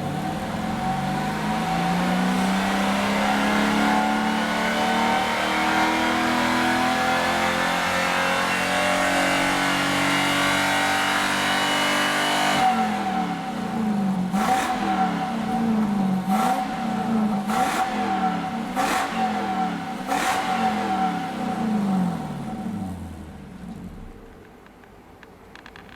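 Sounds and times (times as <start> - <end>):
car engine revving: 0.0 - 24.4.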